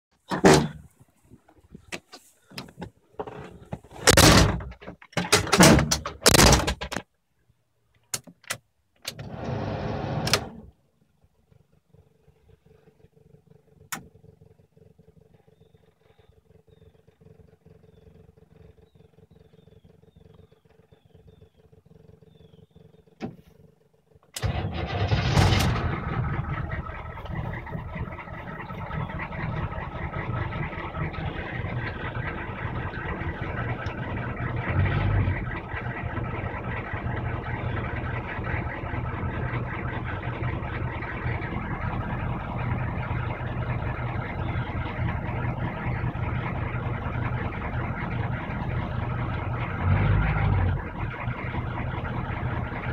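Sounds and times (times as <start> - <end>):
diesel engine cranking and starting: 1.6 - 7.0, 8.2 - 10.8, 11.4 - 52.9
diesel engine idling: 9.3 - 52.9.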